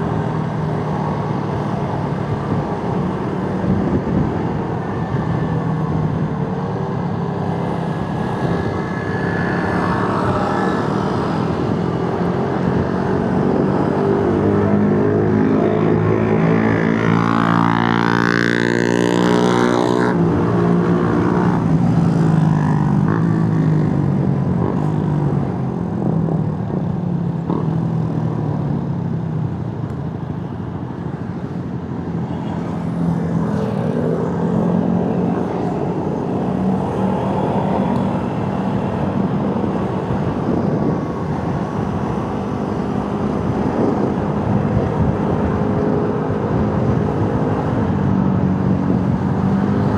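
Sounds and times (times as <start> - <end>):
road and wind noise: 0.0 - 49.9.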